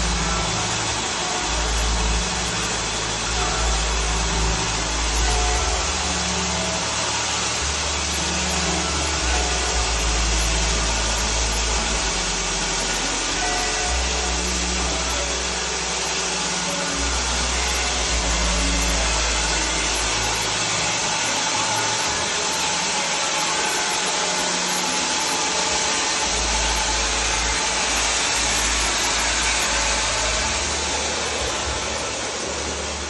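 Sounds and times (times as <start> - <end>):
sawmill machine droning: 0.0 - 33.0.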